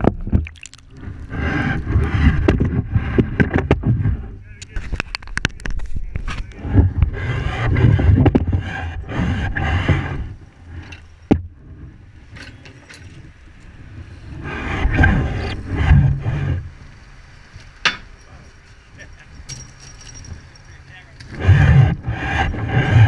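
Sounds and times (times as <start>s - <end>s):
muffled rushing and scraping: 0.0s - 17.1s, 20.0s - 23.0s.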